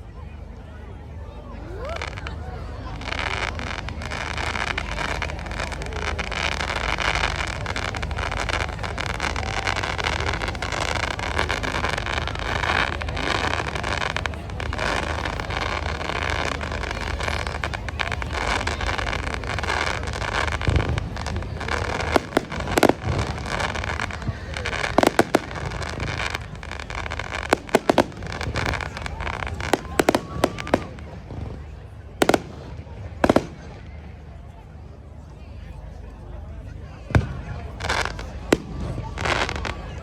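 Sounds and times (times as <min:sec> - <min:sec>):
outdoor crowd noise: 0:00.0 - 0:40.0
fireworks bangs: 0:01.8 - 0:34.4, 0:37.1 - 0:40.0.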